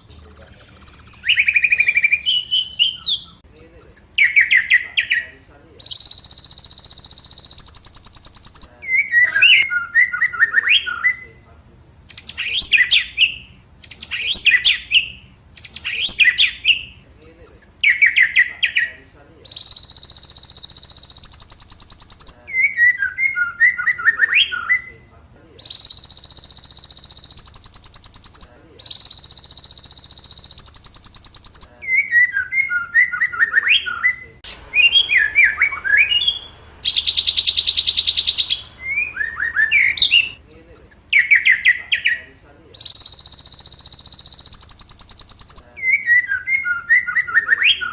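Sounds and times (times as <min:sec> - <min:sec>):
songbird singing trills and whistles: 0:00.0 - 0:11.5, 0:12.1 - 0:47.9.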